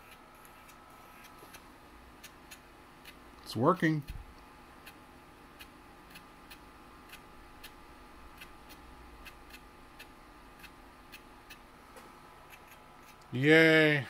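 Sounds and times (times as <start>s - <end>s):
faint computer hum: 0.0s - 14.0s.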